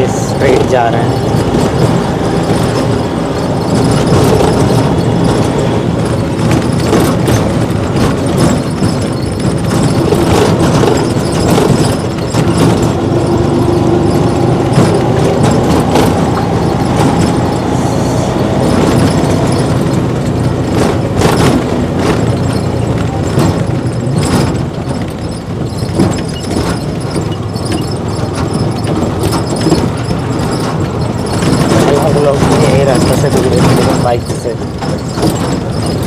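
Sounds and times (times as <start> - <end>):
knocks and rattles: 0.0 - 36.0
vehicle engine and road noise: 0.0 - 36.0.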